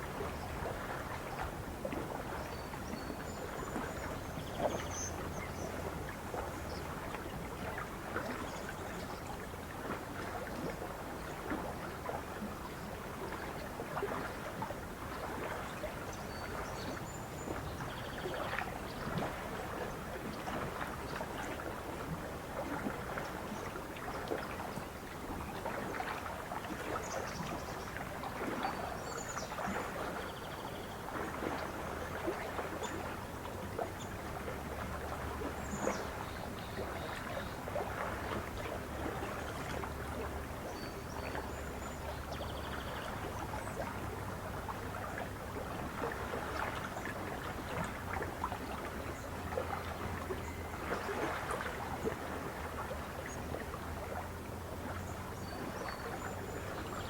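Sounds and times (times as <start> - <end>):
water lapping at shore: 0.0 - 57.0.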